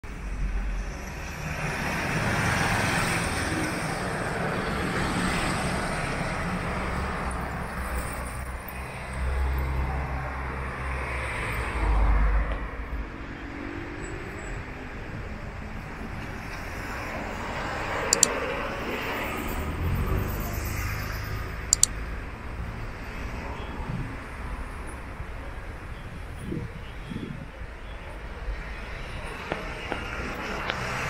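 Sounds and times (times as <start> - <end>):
vehicles passing: 0.0 - 31.0.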